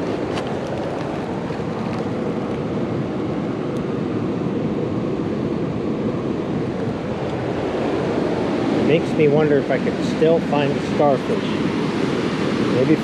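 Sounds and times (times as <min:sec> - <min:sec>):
surf washing around rocks: 0:00.0 - 0:13.0.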